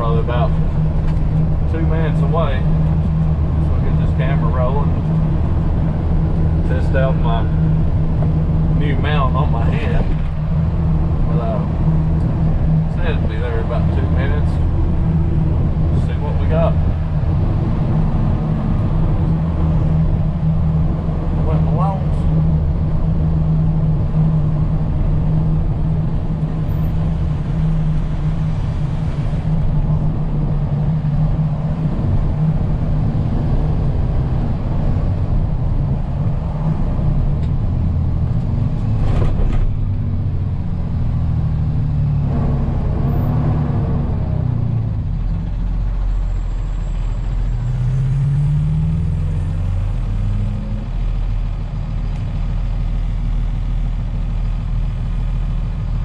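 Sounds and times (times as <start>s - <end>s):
road noise: 0.0s - 56.0s
truck engine from inside cab: 0.0s - 56.0s.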